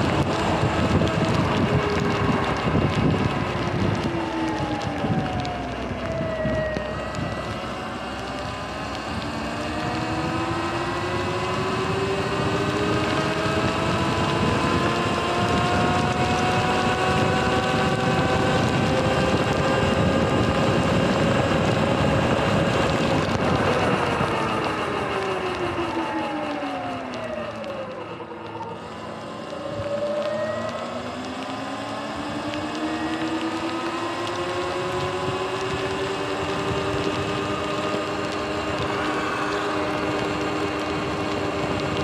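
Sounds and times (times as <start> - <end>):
electric motorbike motor whining: 0.0 - 42.0
wind and tyre noise: 0.0 - 42.0.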